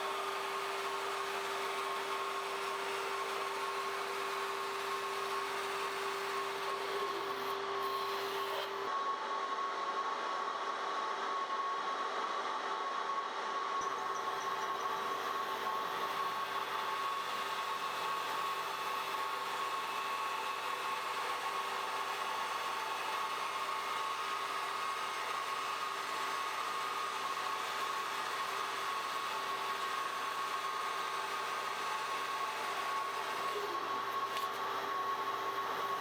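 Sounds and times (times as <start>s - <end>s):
workshop machine whirring: 0.0s - 36.0s.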